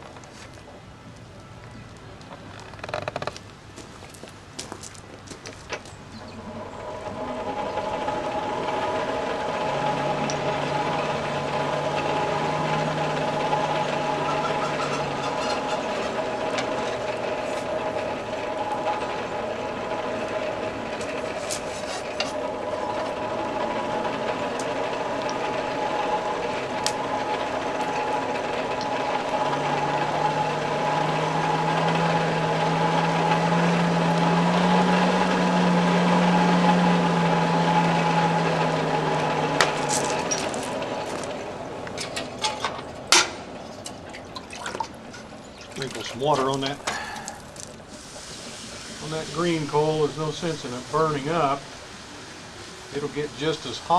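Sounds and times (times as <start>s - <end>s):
forge blower whining: 5.2s - 53.9s.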